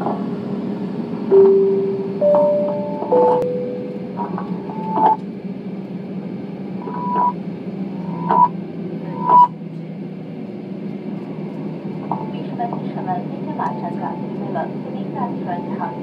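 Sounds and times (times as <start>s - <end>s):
airliner cabin hum: 0.0s - 16.0s.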